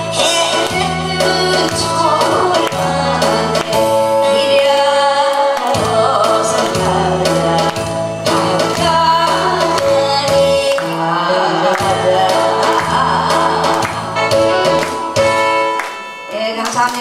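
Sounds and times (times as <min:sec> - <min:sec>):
woman singing into a microphone: 0:00.0 - 0:15.3, 0:16.3 - 0:17.0
amplified instrumental accompaniment: 0:00.0 - 0:17.0.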